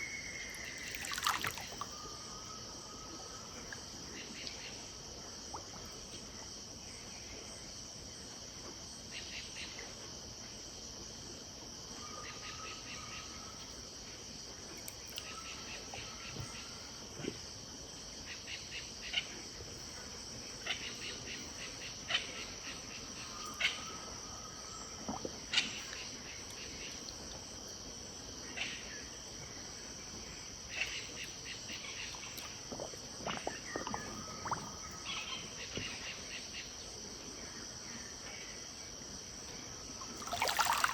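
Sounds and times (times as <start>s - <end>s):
high-pitched insect chorus: 0.0s - 10.9s, 11.6s - 40.9s.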